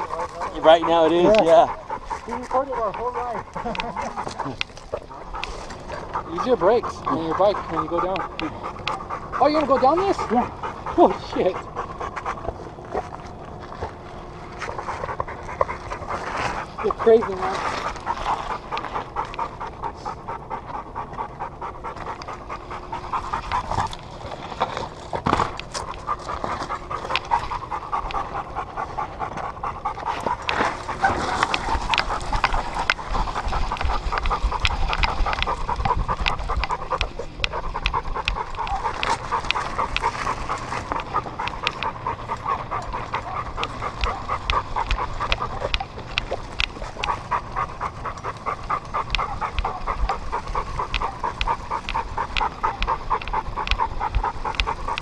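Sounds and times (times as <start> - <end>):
dog panting: 0.0 - 55.0.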